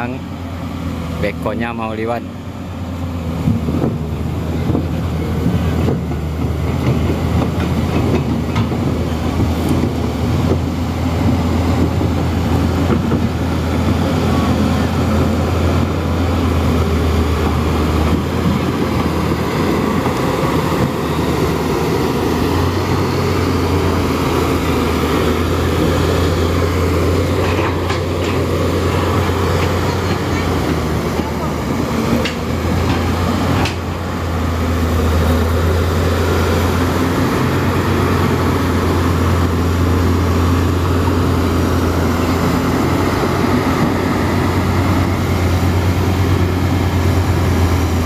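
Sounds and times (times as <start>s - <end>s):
diesel engine running: 0.0s - 48.0s
steel tracks rattling: 3.1s - 48.0s.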